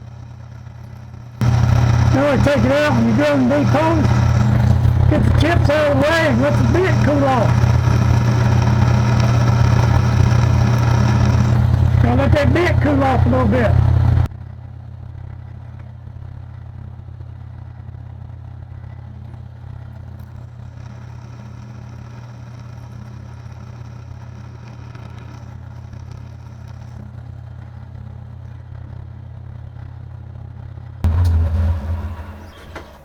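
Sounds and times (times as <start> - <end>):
low machine hum with hiss: 0.0 - 14.3, 15.0 - 33.0.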